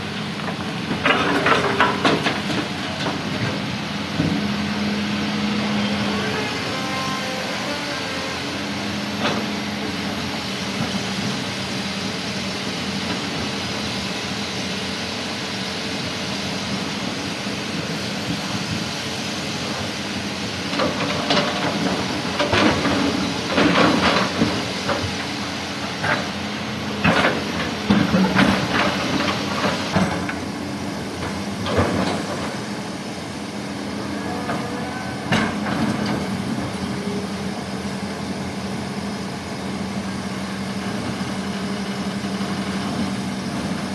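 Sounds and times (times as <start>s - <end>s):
heavy machinery engine running: 0.0s - 43.9s.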